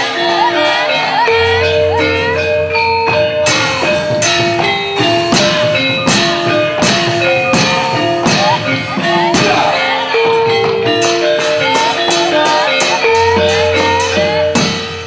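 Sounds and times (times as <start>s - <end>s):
metallophones ringing: 0.0s - 15.0s
sharp percussive strokes: 0.0s - 15.0s.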